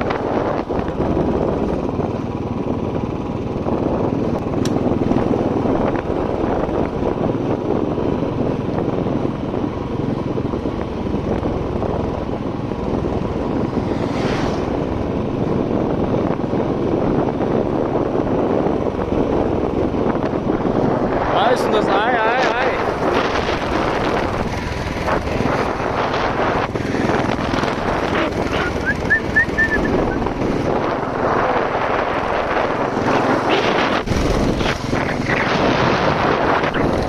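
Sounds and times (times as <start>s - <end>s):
motorcycle engine running: 0.0s - 37.0s
wind and road noise: 0.0s - 37.0s.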